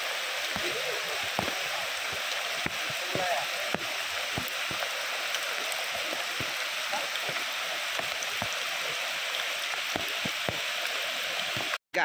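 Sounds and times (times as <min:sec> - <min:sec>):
rapids rushing: 0:00.0 - 0:11.8
rain hissing on river: 0:00.0 - 0:12.0.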